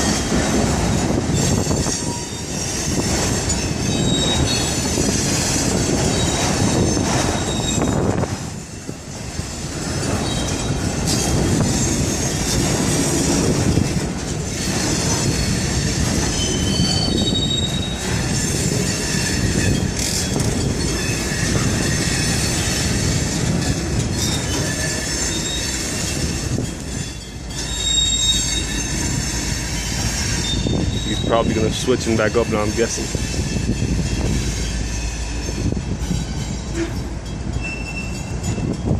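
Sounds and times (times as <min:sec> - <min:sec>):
freight cars rumbling: 0:00.0 - 0:38.9
steel wheel squeal: 0:01.0 - 0:08.9, 0:09.9 - 0:13.8, 0:14.4 - 0:38.9.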